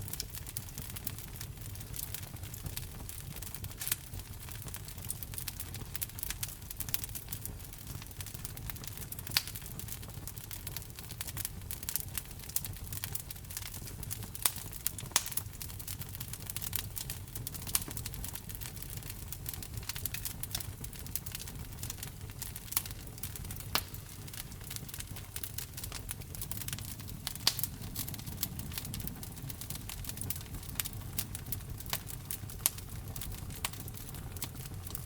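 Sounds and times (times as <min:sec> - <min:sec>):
fire crackling and popping: 0:00.0 - 0:35.0
fire rumbling: 0:00.0 - 0:35.0.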